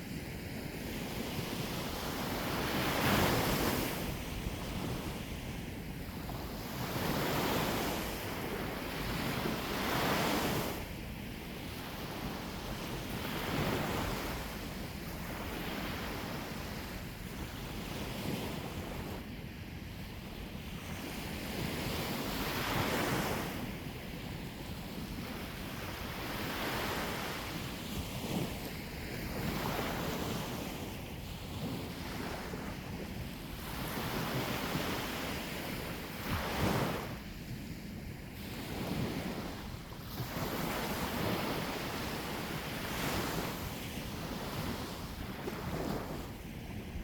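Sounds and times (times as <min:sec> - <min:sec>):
sea waves breaking on shore: 0:00.0 - 0:19.3, 0:24.8 - 0:47.0
wind rumbling on microphone: 0:00.0 - 0:47.0.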